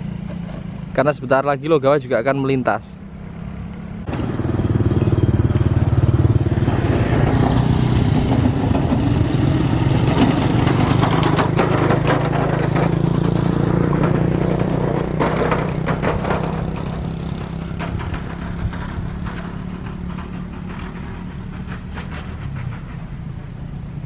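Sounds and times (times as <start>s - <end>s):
motorcycle engines passing: 0.0s - 24.0s.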